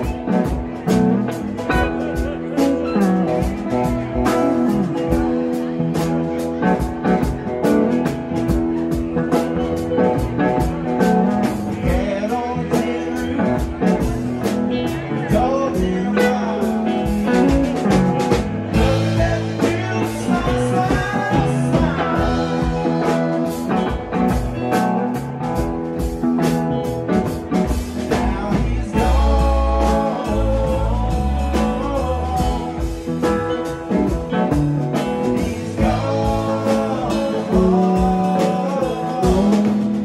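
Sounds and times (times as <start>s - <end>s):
drums and cymbals beat: 0.0s - 40.0s
live rock band playing: 0.0s - 40.0s.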